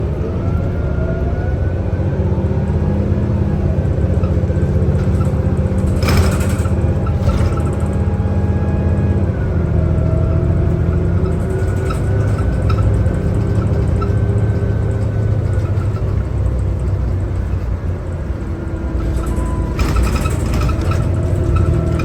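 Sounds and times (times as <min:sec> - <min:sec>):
bus engine drone: 0:00.0 - 0:22.0
faint whining tones: 0:02.8 - 0:22.0.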